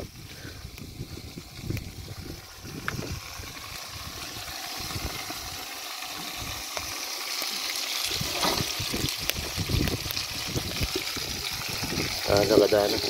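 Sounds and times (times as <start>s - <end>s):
stew sizzling and bubbling: 0.0s - 13.0s.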